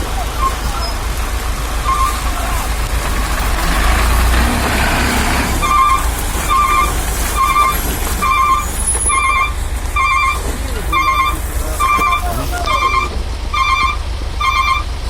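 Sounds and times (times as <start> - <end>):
low engine rumble: 0.0 - 15.0
truck reversing beeper: 0.0 - 15.0.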